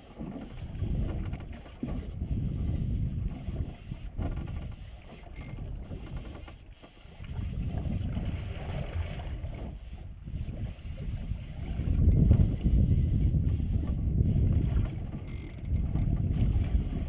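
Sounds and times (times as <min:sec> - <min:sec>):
water lapping against boat hull: 0:00.0 - 0:17.0
wind buffeting microphone: 0:00.4 - 0:06.4, 0:07.3 - 0:17.0.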